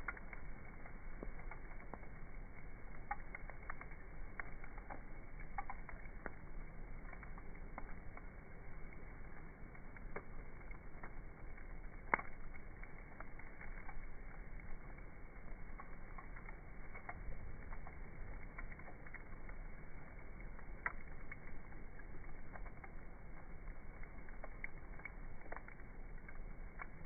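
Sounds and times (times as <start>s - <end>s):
campfire crackling: 0.0s - 27.0s
fire snapping: 0.0s - 27.0s.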